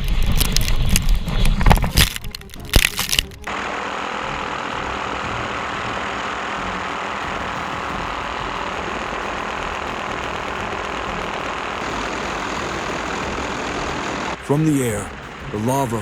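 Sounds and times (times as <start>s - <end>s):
aircraft engine rumble: 0.0s - 16.0s.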